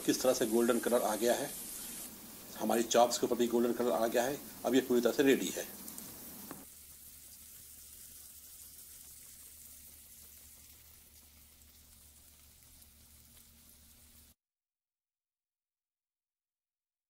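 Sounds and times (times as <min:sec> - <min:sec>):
food sizzling in oil: 0:00.0 - 0:14.4.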